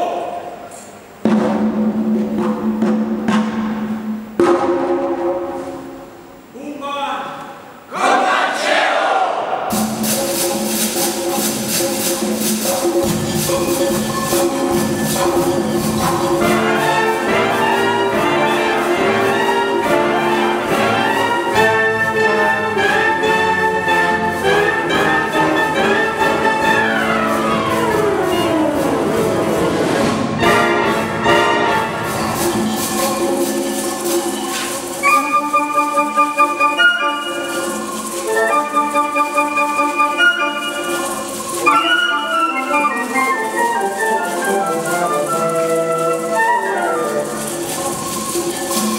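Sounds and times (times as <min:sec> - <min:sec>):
concert wind band playing: 0:09.5 - 0:48.9.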